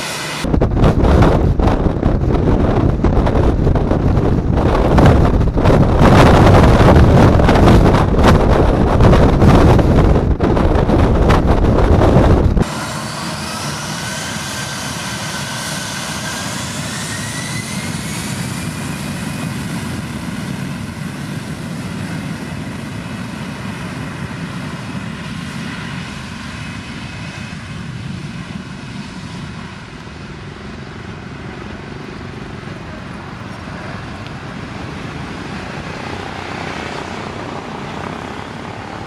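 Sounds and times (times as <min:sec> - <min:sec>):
jet engines whining: 0:00.0 - 0:39.0
steady rumble: 0:00.0 - 0:39.0.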